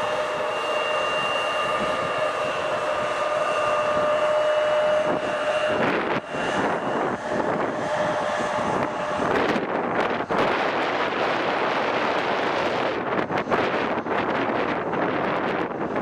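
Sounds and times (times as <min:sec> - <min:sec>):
airplane engine whine: 0:00.0 - 0:16.0
broad rushing noise: 0:00.0 - 0:16.0.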